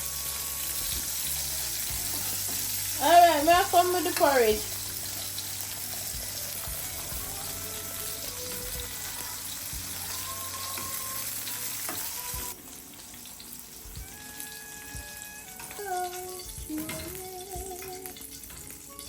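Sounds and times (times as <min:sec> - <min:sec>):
food sizzling in a frying pan: 0:00.0 - 0:19.0
soft music: 0:00.0 - 0:19.0.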